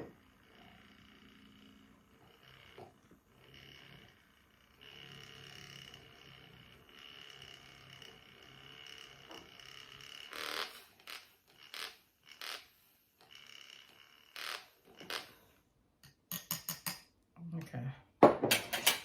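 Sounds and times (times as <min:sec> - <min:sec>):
electric whisk whirring: 0:00.0 - 0:15.7.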